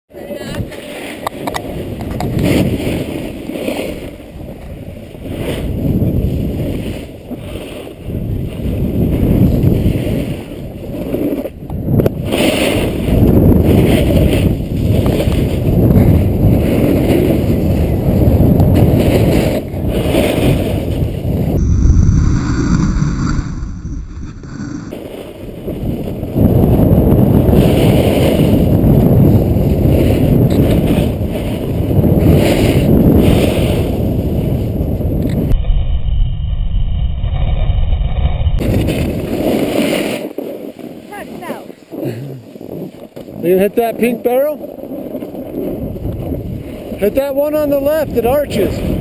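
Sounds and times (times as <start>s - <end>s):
wind buffeting microphone: 0.1s - 49.0s
snow scraping underfoot: 0.2s - 21.6s, 24.5s - 35.0s, 38.6s - 49.0s.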